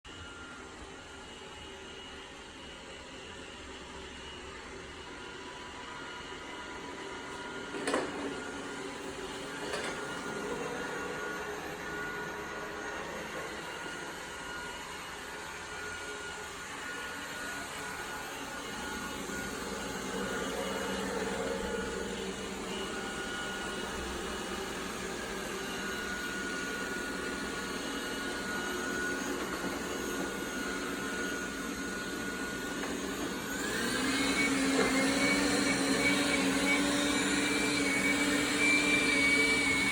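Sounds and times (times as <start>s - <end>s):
robot vacuum running with whine: 0.1s - 39.9s.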